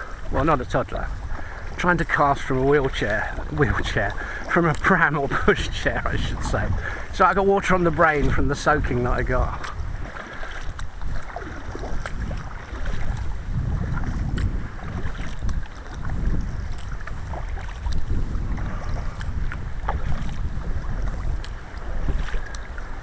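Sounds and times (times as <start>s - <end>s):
water splashing around a kayak: 0.0s - 23.0s
wind on microphone: 0.0s - 23.0s.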